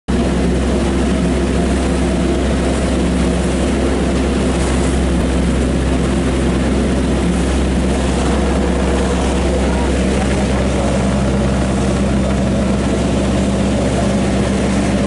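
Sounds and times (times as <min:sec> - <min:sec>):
boat engine droning: 0:00.1 - 0:15.0
water and wind hiss: 0:00.1 - 0:15.0.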